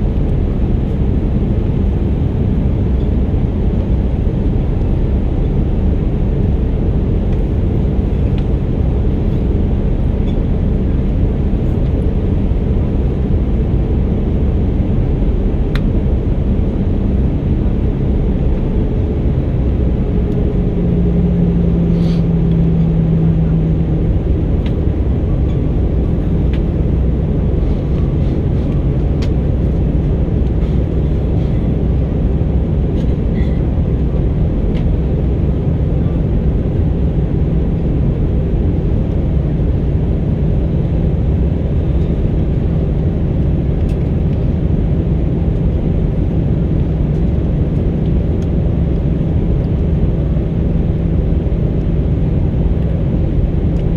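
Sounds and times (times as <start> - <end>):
jet engine cabin rumble: 0.0 - 53.9
low hum: 0.0 - 53.9.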